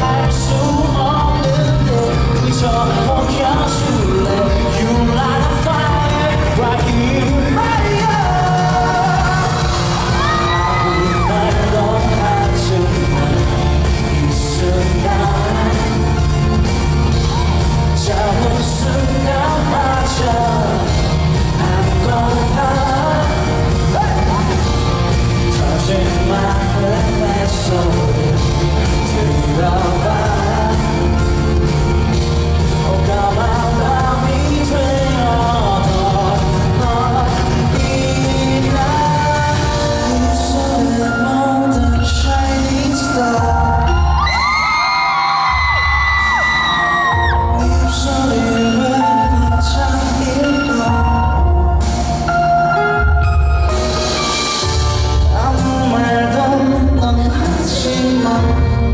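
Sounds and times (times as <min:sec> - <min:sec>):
man singing into microphone: 0:00.0 - 0:17.2, 0:17.8 - 0:51.8, 0:54.2 - 0:58.9
pop band with drums and bass: 0:00.0 - 0:58.9.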